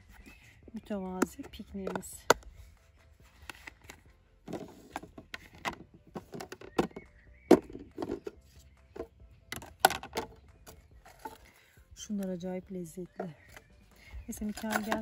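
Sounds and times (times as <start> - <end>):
plastic containers clicking and knocking: 0.3 - 2.6, 3.4 - 11.6, 13.1 - 15.0.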